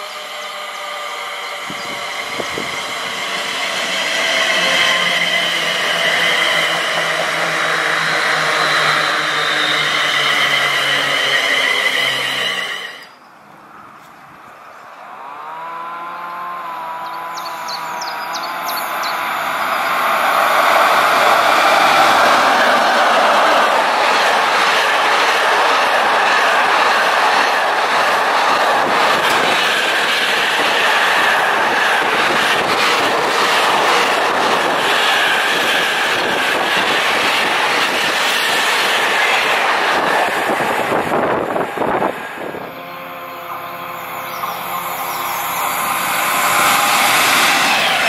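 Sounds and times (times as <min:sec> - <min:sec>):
train wagons rolling past: 0:00.0 - 0:14.8, 0:17.0 - 0:42.9, 0:43.6 - 0:48.0
electric train hum: 0:00.0 - 0:48.0.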